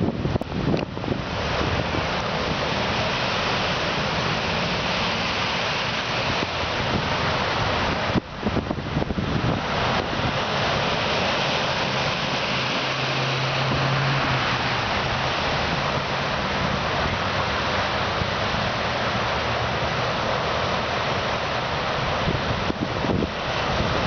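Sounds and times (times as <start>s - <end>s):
low engine hum: 0.0s - 24.0s
tyres splashing through floodwater: 0.0s - 24.0s.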